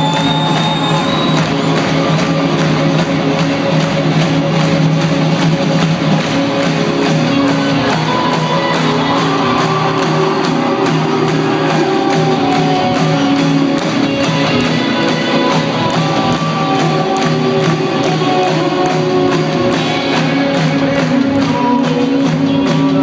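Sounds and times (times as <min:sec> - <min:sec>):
electric guitar: 0:00.0 - 0:23.0
live rock band playing: 0:00.0 - 0:23.0.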